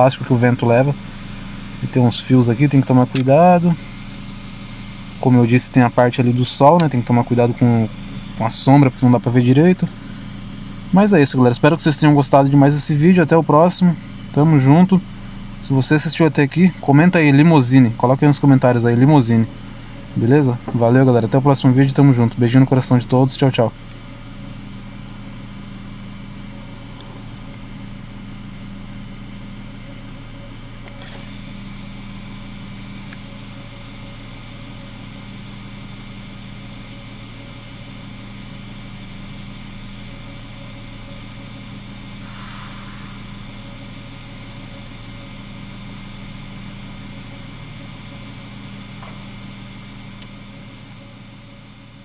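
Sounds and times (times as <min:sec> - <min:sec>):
faint high whine: 0:00.0 - 0:52.0
low mechanical hum: 0:00.0 - 0:52.0.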